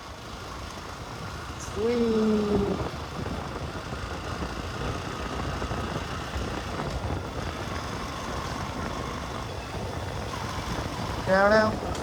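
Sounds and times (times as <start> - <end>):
road noise rushing: 0.0 - 12.0.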